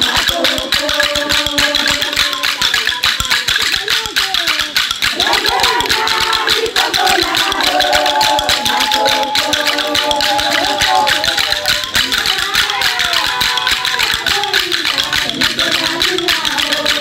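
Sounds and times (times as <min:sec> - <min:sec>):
fast percussion rhythm: 0:00.0 - 0:17.0
voices singing: 0:00.0 - 0:17.0.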